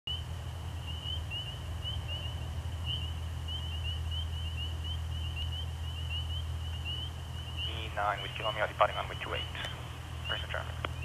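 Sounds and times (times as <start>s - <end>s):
frogs peeping: 0.1s - 11.0s
steady low hum: 0.1s - 11.0s.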